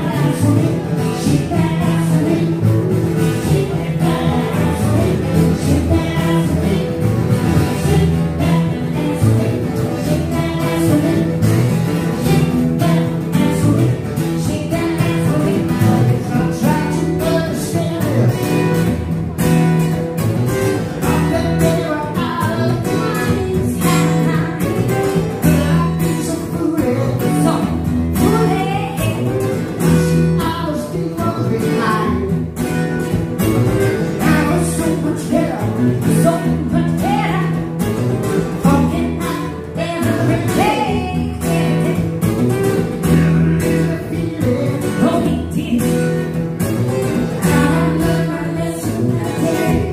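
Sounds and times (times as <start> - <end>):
person singing: 0.0 - 19.1, 20.6 - 32.7, 33.8 - 49.9
acoustic guitar strummed: 0.0 - 49.9.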